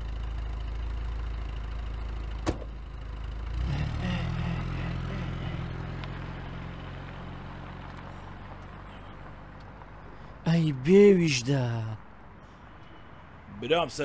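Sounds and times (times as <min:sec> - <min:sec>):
car engine running: 0:00.0 - 0:11.9
deep engine hum: 0:00.0 - 0:12.0.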